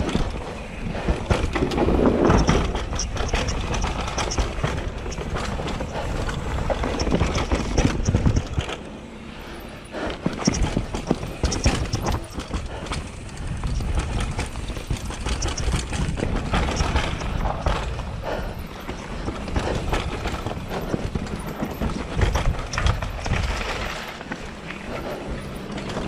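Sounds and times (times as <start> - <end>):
bike knocking and rattling: 0.0 - 26.0
bike tyres rumbling on dirt: 0.0 - 26.0.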